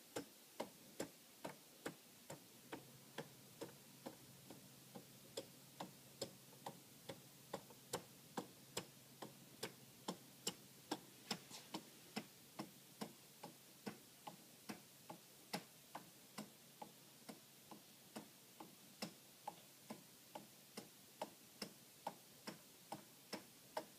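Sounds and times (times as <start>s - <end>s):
clock ticking: 0.0s - 23.9s.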